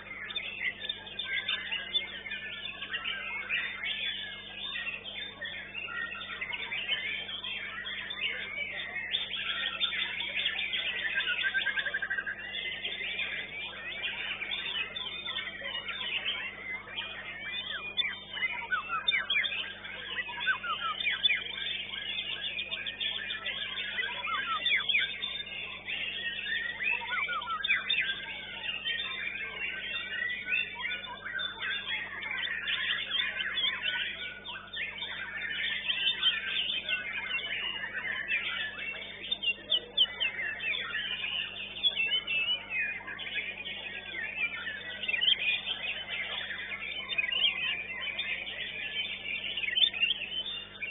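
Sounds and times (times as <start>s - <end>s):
other caged birds singing: 0.0s - 50.9s
songbird whistling phrases: 0.0s - 50.9s.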